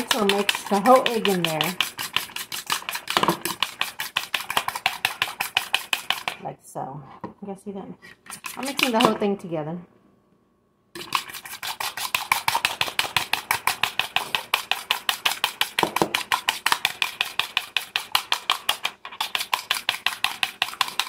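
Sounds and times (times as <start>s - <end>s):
fork beating eggs in a bowl: 0.0s - 6.4s, 8.1s - 9.3s, 11.0s - 21.0s.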